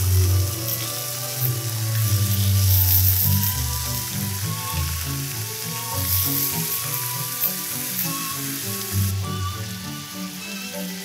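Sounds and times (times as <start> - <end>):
background music: 0.0 - 11.0
pork sizzling in a frying pan: 0.0 - 11.0.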